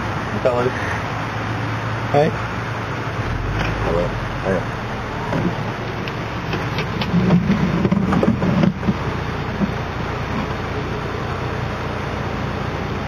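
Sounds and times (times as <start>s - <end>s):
road noise: 0.0s - 13.0s
vehicle rumble: 0.0s - 13.0s.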